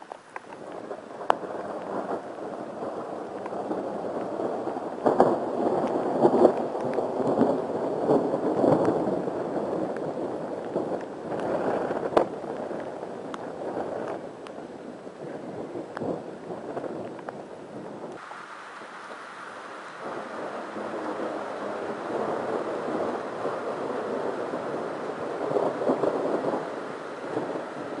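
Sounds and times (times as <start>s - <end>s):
rolling thunder rumble: 0.0s - 28.0s
thunder cracks: 0.6s - 14.3s, 15.1s - 28.0s.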